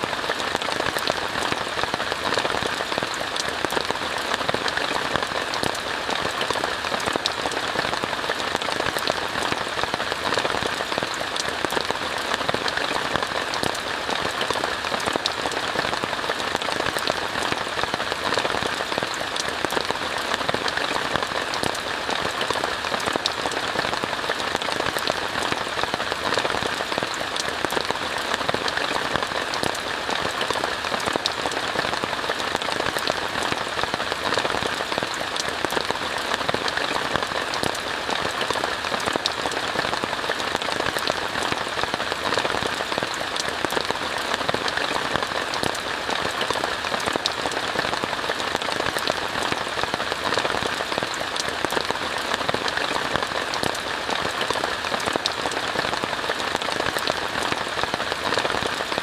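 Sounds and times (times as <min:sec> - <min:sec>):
rain pattering on a tent: 0:00.0 - 0:59.0.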